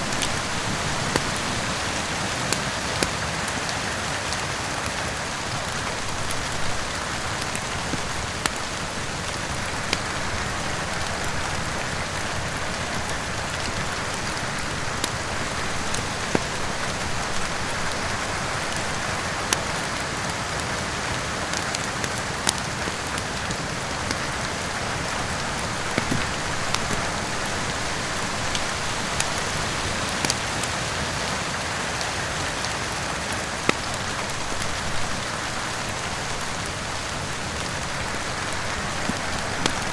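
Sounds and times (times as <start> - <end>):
steady rain falling: 0.0 - 39.9
wood fire crackling: 0.0 - 39.9.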